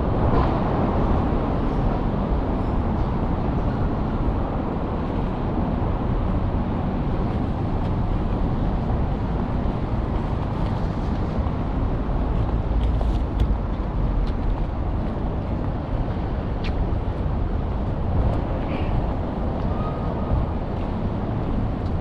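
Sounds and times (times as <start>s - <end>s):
low rumble of street traffic: 0.0s - 22.0s.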